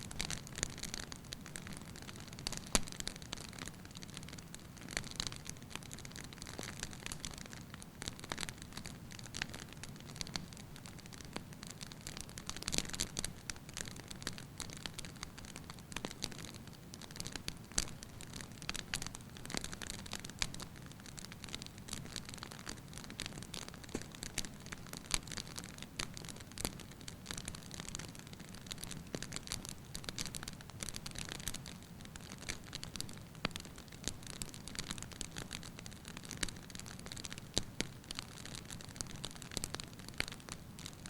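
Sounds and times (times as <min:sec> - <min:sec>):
logs crackling and popping: 0:00.1 - 0:41.0.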